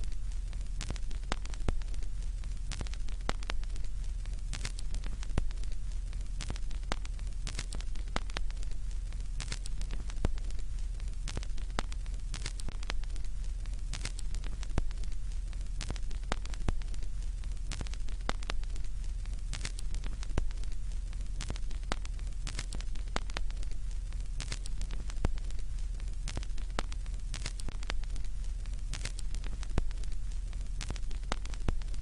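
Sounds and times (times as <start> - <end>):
crackling static pops: 0.0 - 32.0
faint hiss: 0.0 - 32.0.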